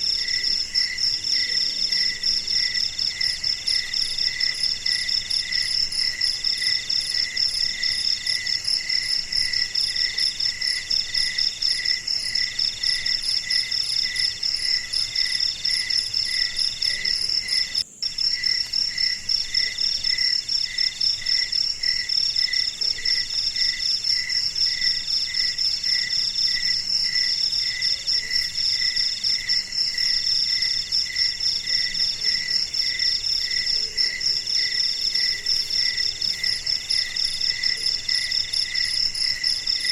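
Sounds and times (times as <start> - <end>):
high insect trill: 0.0 - 39.9
longer repeating insect trill: 0.0 - 39.9
lower pulsing insect chirp: 0.0 - 39.9.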